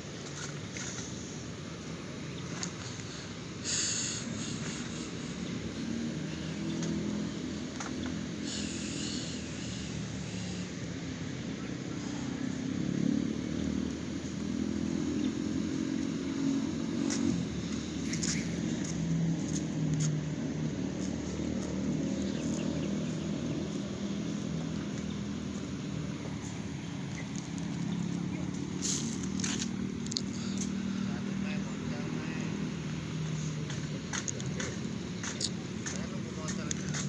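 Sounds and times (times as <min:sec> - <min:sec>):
motor traffic hum: 0:00.0 - 0:37.0.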